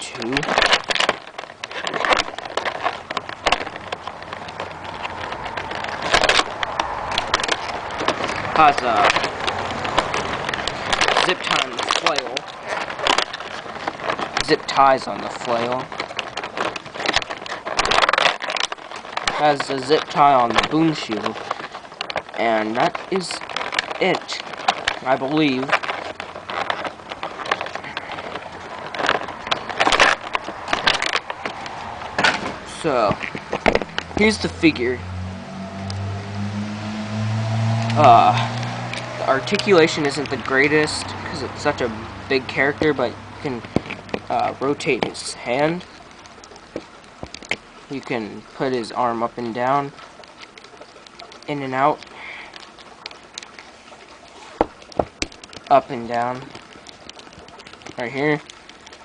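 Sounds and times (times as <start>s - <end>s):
plastic packaging crackling: 0.0s - 48.6s, 49.8s - 59.0s.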